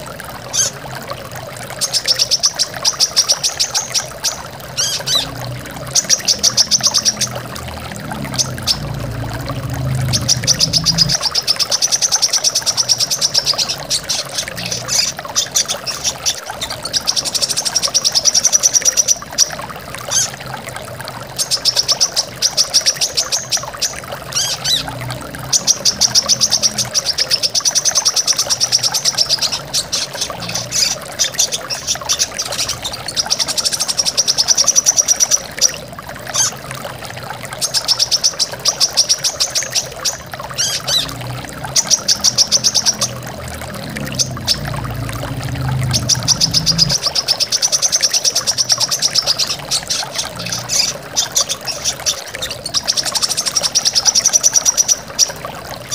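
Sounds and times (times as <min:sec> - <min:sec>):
rushing waterfall: 0:00.0 - 0:55.9.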